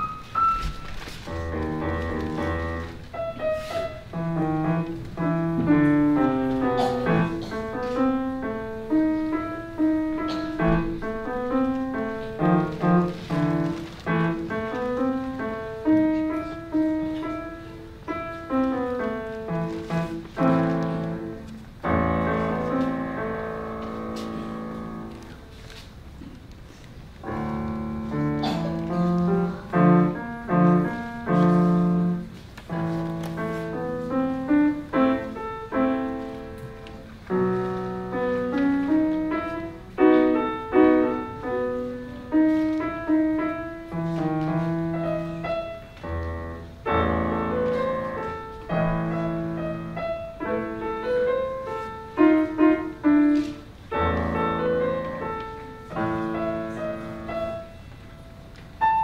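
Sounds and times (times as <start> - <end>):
deep piano bass notes: 0.0 - 25.5, 27.2 - 59.0
piano piece: 0.0 - 59.0.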